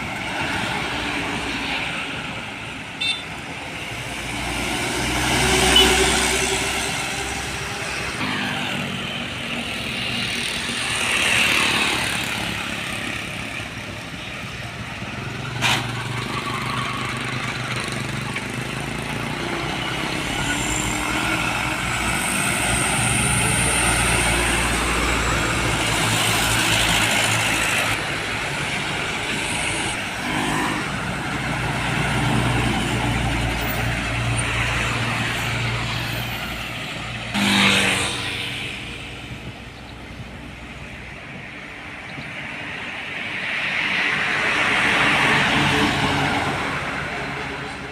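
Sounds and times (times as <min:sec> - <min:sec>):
diesel trucks passing: 0:00.0 - 0:47.9.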